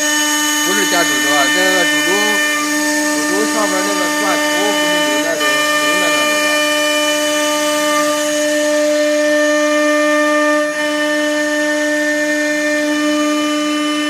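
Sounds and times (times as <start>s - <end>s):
router spindle whining: 0.0s - 14.0s.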